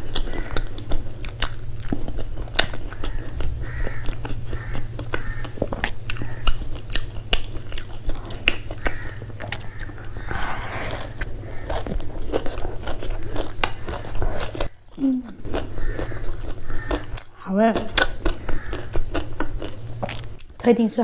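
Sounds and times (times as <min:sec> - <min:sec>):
low hum: 0:00.0 - 0:20.6
chewing and crunching food: 0:00.0 - 0:21.0.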